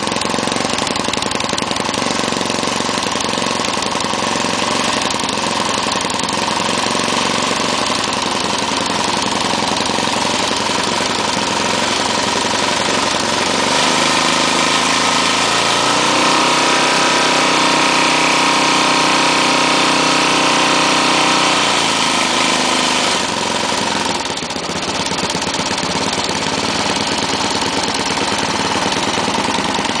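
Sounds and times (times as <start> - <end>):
small lawn mower engine running: 0.0 - 30.0.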